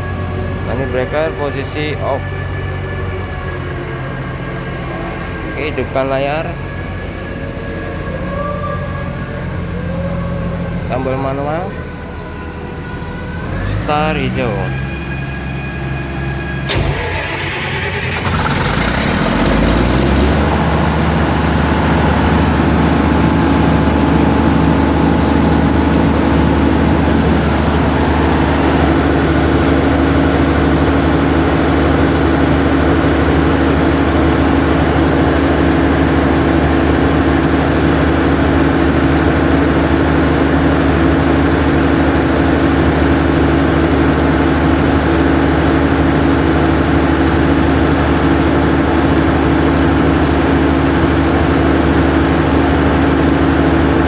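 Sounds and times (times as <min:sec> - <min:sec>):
diesel generator starting and running: 0:00.0 - 0:54.0.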